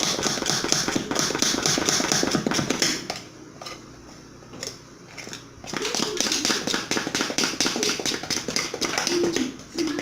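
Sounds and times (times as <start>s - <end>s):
utensil stirring batter in bowl: 0.0s - 3.8s, 4.6s - 9.5s.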